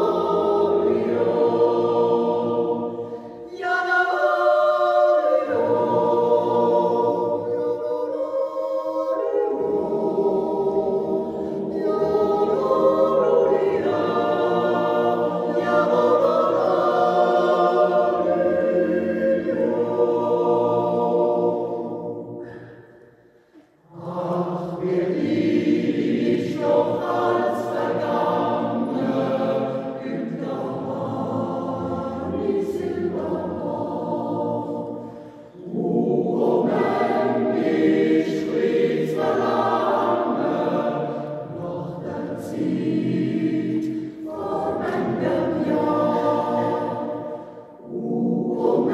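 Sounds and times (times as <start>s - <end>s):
choir yodelling a cappella: 0.0s - 48.9s.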